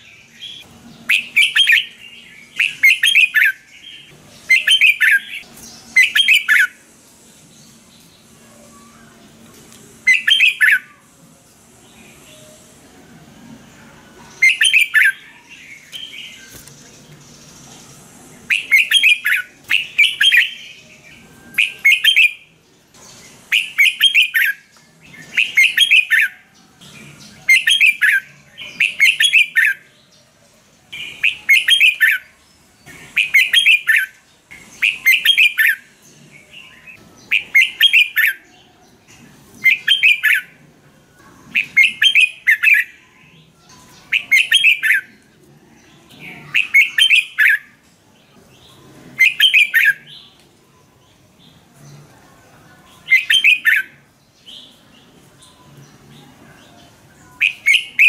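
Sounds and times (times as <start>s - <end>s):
bird singing: 0.0s - 11.2s, 11.8s - 58.0s.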